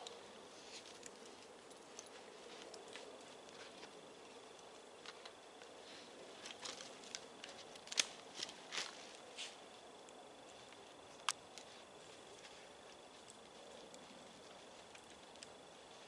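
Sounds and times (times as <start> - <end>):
rucksack rustling and scraping: 0.0 - 16.0.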